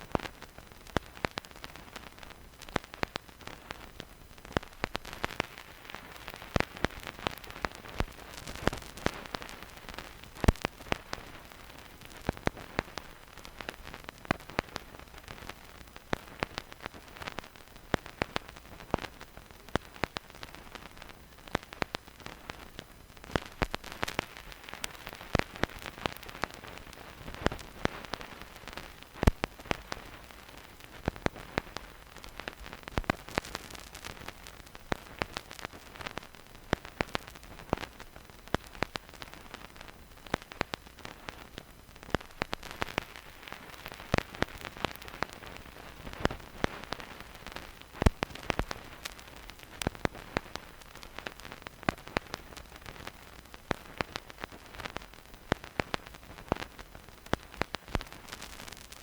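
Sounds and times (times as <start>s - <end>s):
soft record hiss: 0.0s - 59.0s
vinyl crackles and pops: 0.0s - 59.0s.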